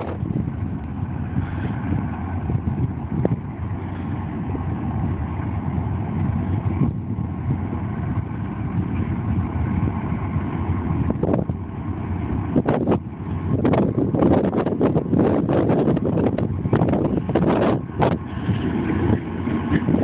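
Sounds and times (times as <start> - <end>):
diesel locomotive rumble: 0.0 - 20.0
wind buffeting microphone: 0.0 - 20.0.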